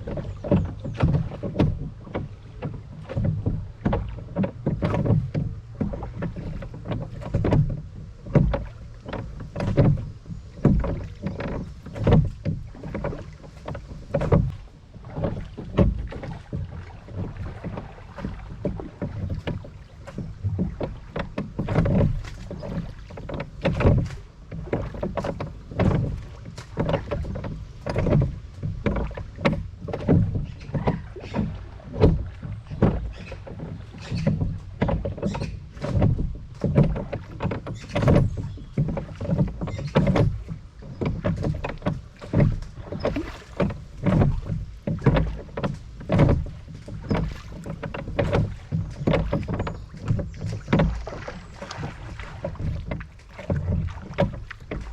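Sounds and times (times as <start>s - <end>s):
water splashing against boat hull: 0.0s - 54.9s.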